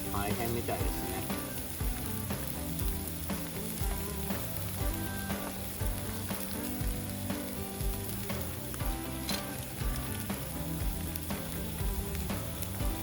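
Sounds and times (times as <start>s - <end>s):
meat sizzling on a hot plate: 0.0s - 13.0s.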